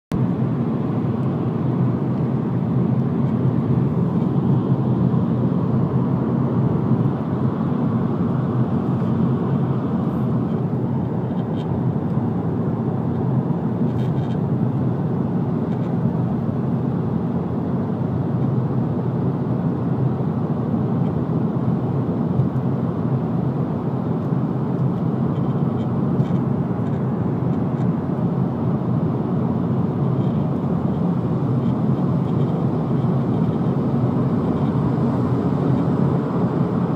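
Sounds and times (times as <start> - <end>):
car engine rumble inside cabin: 0.1 - 36.9.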